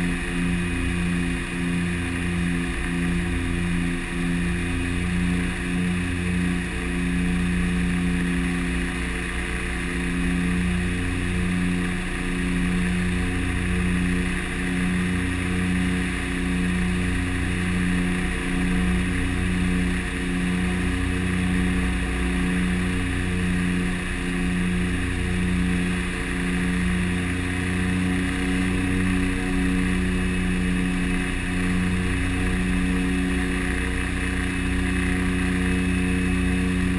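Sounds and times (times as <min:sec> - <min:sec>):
turboprop engines droning: 0:00.0 - 0:36.9.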